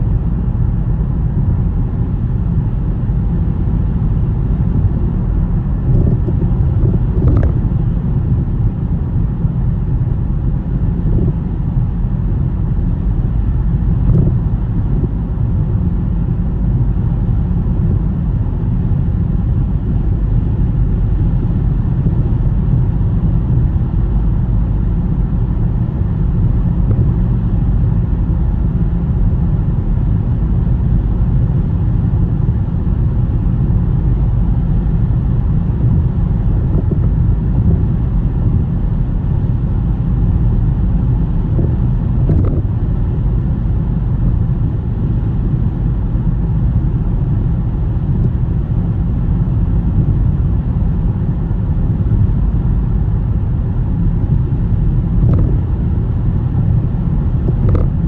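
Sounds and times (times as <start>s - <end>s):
car tyres and engine rumbling: 0.0s - 58.0s.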